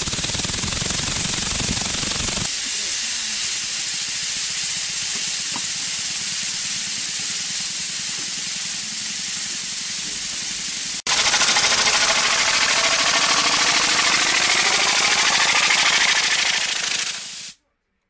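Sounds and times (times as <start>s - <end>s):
swinging nozzle rumble: 0.0s - 2.5s, 3.6s - 17.6s
compressed air hissing: 0.0s - 17.6s.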